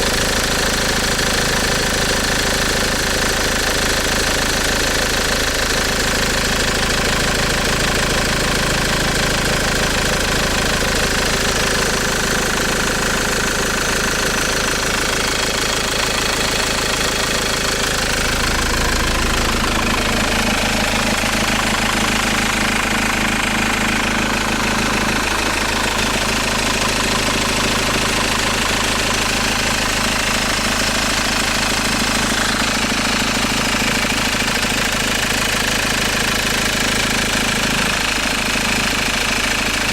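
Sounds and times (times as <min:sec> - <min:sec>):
engine idling with knock: 0:00.0 - 0:39.9.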